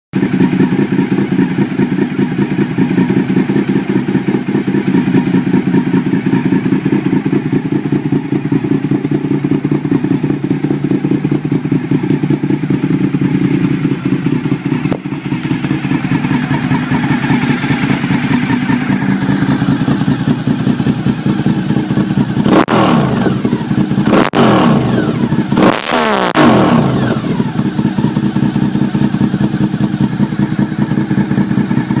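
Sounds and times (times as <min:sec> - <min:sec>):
motorcycle engine idling: 0:00.2 - 0:32.0.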